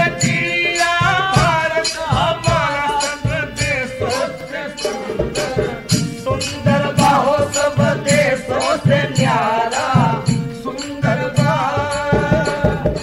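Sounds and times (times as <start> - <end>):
person singing folk song: 0.0 - 13.0
steady drum beat: 0.0 - 13.0.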